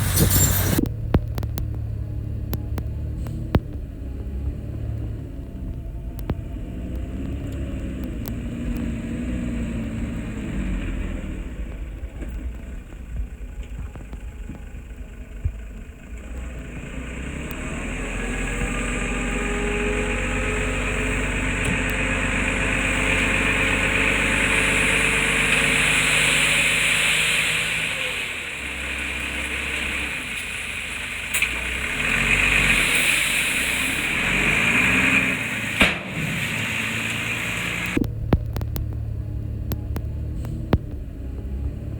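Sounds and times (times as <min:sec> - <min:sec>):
diesel engine working: 0:00.0 - 0:41.9.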